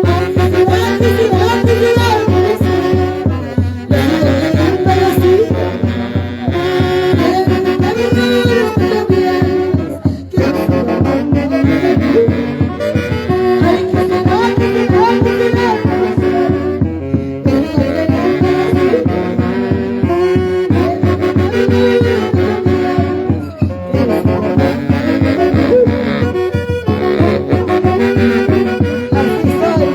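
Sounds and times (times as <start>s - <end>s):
live band with horn melody: 0.0s - 29.9s.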